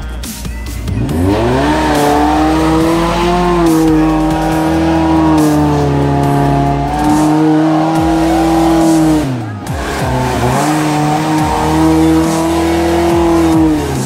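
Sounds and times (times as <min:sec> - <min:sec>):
car engine revving under load: 0:00.7 - 0:14.0.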